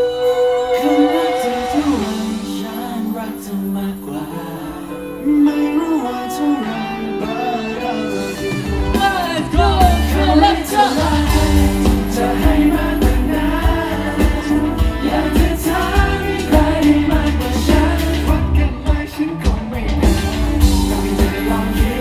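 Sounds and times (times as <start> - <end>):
boys singing into microphones: 0.0 - 22.0
live band playing pop-rock: 0.0 - 22.0.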